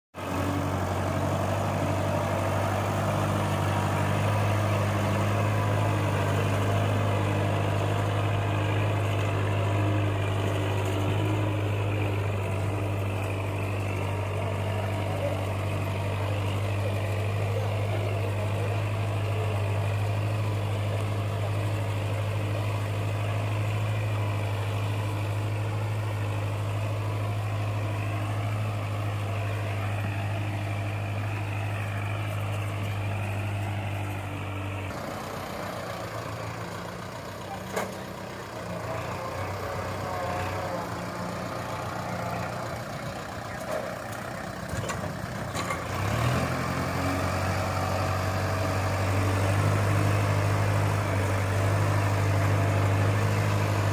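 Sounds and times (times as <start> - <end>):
tractor diesel engine running: 0.2 - 53.9.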